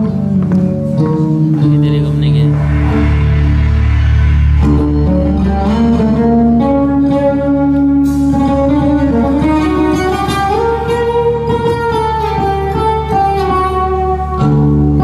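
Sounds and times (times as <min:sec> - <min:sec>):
low bass drone: 0:00.0 - 0:13.3
plucked or drummed strokes: 0:00.0 - 0:15.0.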